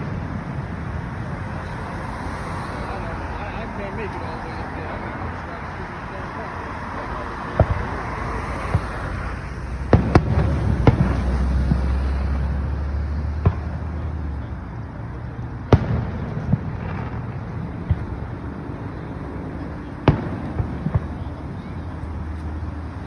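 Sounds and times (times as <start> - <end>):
fireworks bangs: 0.0 - 14.4, 15.5 - 23.0.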